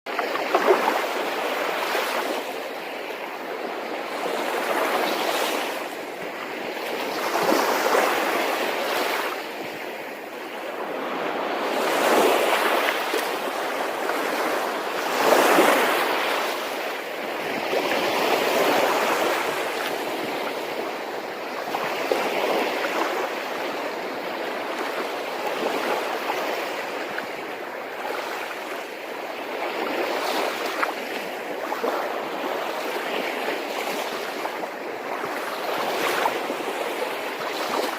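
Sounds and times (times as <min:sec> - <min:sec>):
wind: 0:00.0 - 0:37.9.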